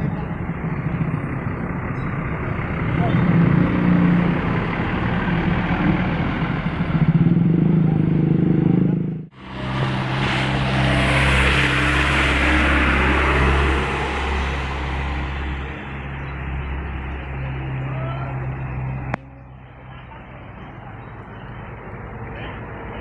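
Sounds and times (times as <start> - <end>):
bus engine drone: 0.0 - 23.0
rush of passing bus: 0.0 - 23.0.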